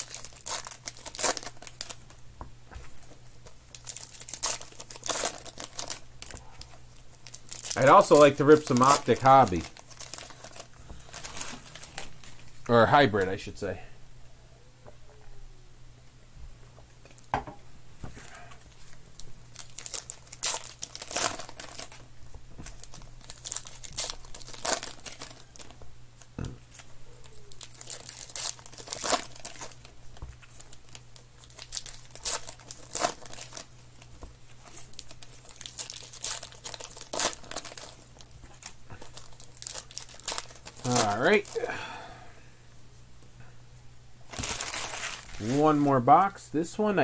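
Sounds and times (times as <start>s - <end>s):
wrappers crackling and ripping: 0.0s - 2.2s, 3.0s - 13.3s, 18.3s - 41.6s, 44.3s - 46.0s.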